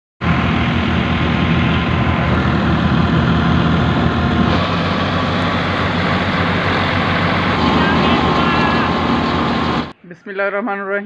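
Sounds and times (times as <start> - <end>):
threshing drum rushing: 0.2 - 9.9
tractor engine running under load: 0.2 - 9.9.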